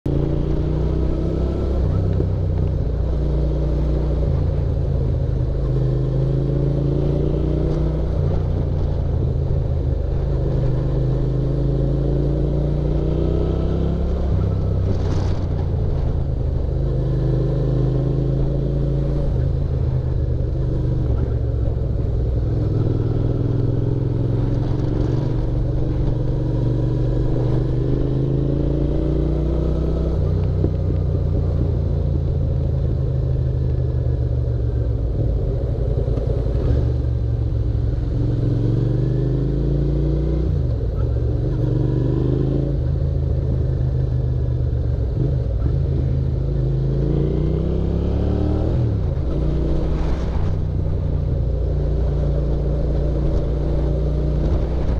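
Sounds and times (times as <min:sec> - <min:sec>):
motorcycle engine revving: 0:00.1 - 0:54.9
wind rumble on microphone: 0:00.1 - 0:54.9.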